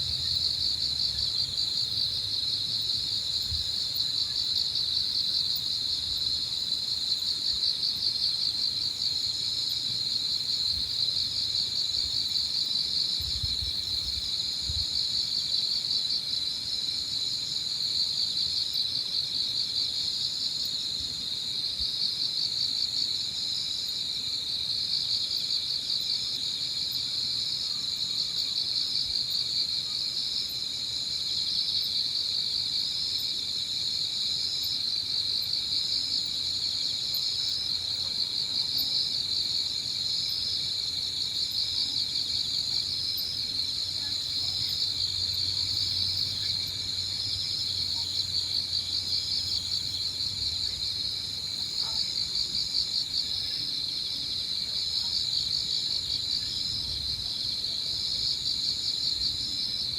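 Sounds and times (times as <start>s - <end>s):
crickets and insects trilling: 0.0s - 59.9s.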